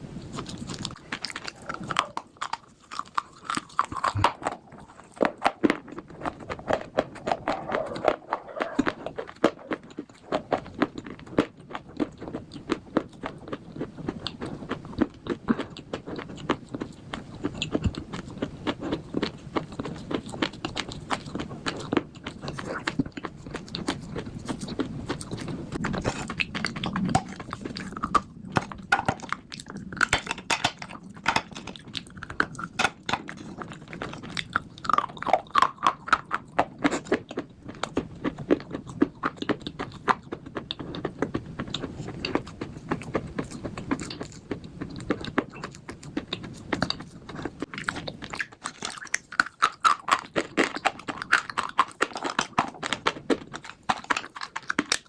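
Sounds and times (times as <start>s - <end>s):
person chewing crunchy bars: 0.0s - 55.0s.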